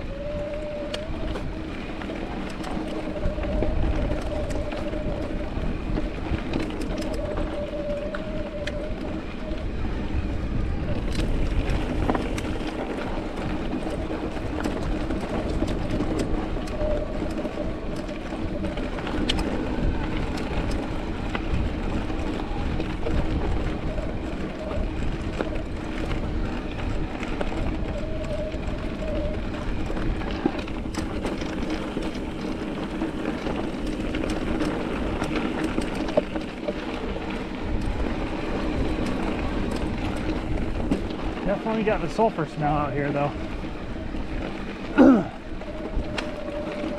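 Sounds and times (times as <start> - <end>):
bike tyres rumbling on dirt: 0.0 - 46.9
wind on microphone: 0.0 - 46.9
bike clicks and rattles: 0.1 - 46.9.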